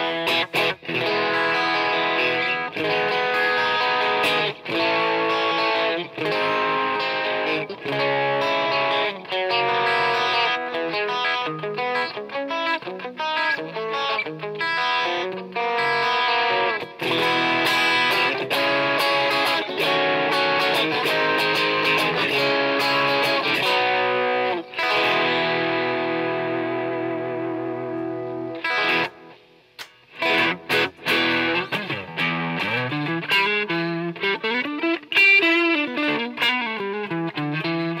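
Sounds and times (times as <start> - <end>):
overdriven electric guitar: 0.0 - 38.0.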